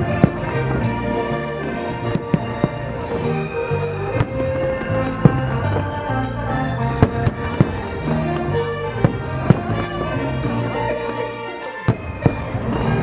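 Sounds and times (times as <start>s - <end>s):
fireworks bursting: 0.0s - 13.0s
soundtrack music: 0.0s - 13.0s.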